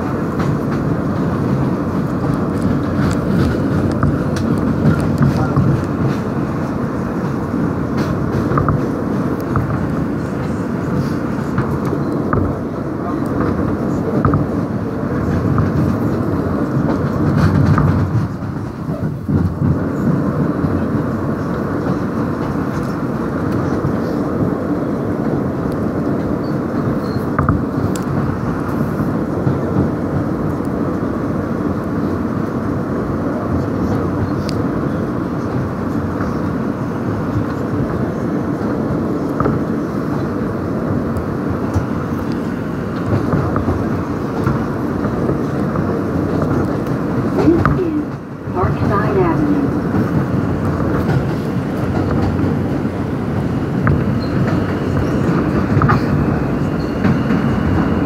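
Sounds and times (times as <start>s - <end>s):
subway wheels rumbling on rails: 0.0s - 58.0s.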